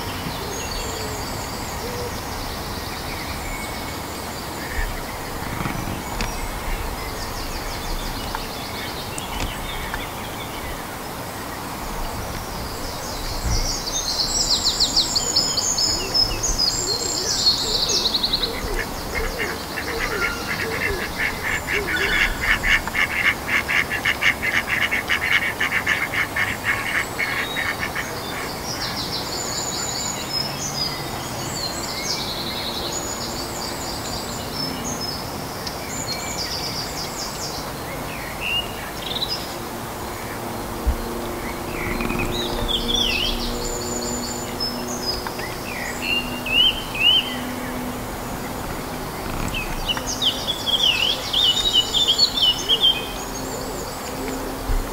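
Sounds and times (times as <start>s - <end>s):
songbirds singing: 0.0s - 54.9s
steady outdoor hiss: 0.0s - 54.9s.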